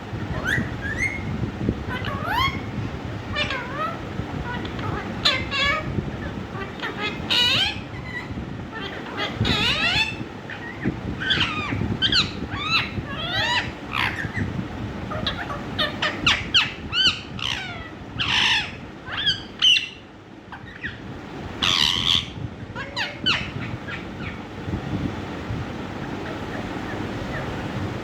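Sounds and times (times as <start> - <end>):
parakeet chirping and squawking: 0.0 - 24.6, 26.0 - 27.9
parakeet screeching: 0.2 - 21.0, 21.6 - 24.4, 26.2 - 27.6.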